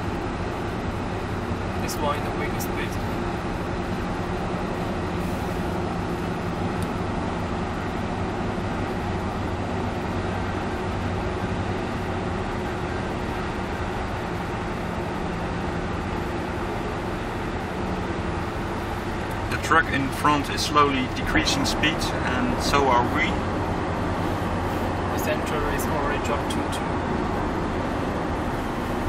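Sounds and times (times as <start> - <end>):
low engine hum: 0.0 - 29.0
car tyre and wind rush: 3.0 - 29.0.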